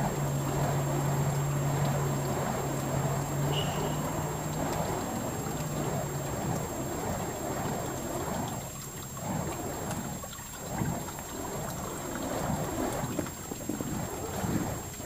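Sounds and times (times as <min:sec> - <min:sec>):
fire poi whooshing: 0:00.0 - 0:15.0.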